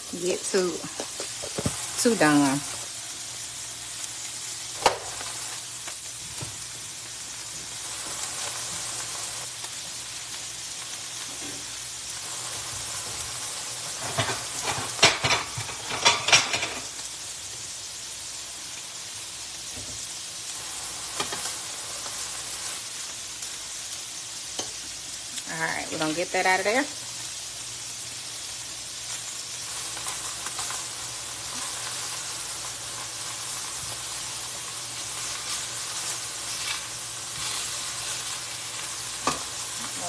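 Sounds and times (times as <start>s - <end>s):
chicken sizzling in pan: 0.0s - 40.0s.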